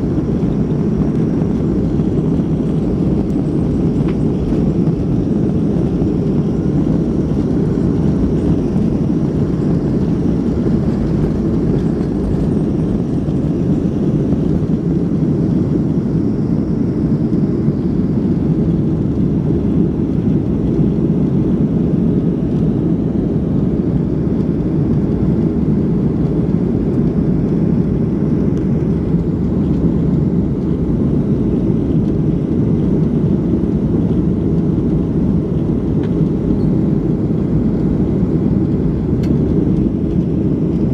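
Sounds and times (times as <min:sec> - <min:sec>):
airplane cabin engine drone: 0:00.0 - 0:40.9.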